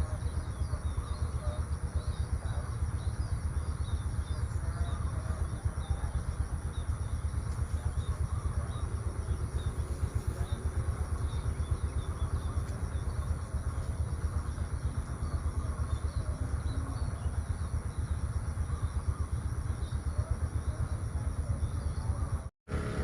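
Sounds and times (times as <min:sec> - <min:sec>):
faint bird chirps: 0:00.0 - 0:22.5
fluttering low rumble: 0:00.0 - 0:23.0.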